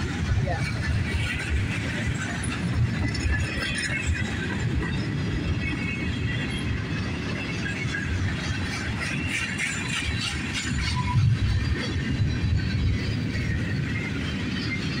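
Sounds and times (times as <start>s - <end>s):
freight cars rumbling over bridge: 0.0s - 15.0s.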